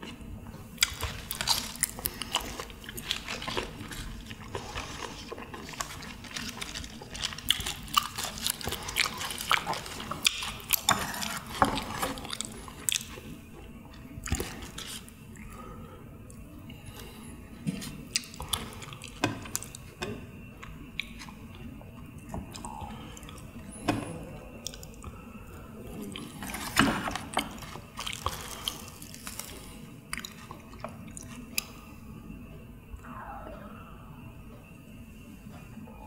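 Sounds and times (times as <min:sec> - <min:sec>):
man chewing with wet mouth sounds: 0:00.0 - 0:36.0.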